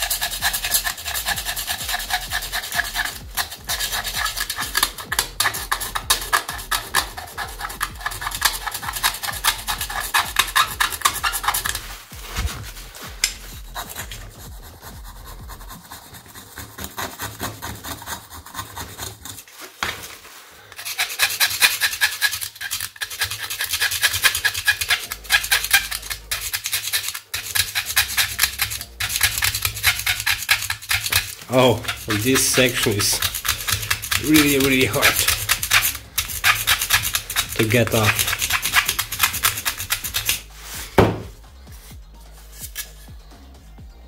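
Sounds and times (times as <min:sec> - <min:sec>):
hand tool scraping paint off clay: 0:00.0 - 0:41.3, 0:42.4 - 0:43.2.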